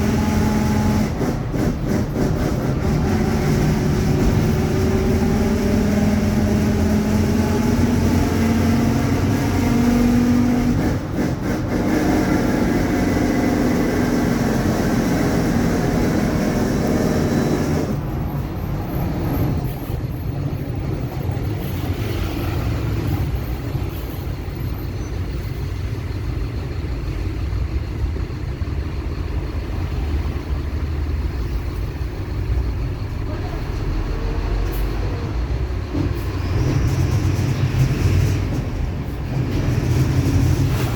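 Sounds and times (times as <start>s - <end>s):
bus diesel engine rumble: 0.0s - 40.9s.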